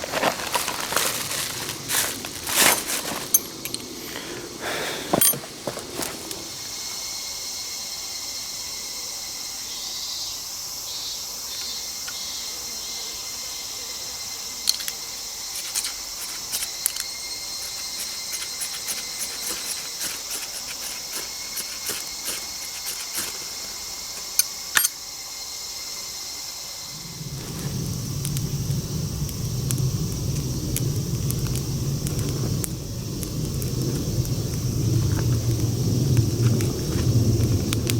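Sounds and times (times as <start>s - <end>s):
insects chirring: 0.0s - 37.9s.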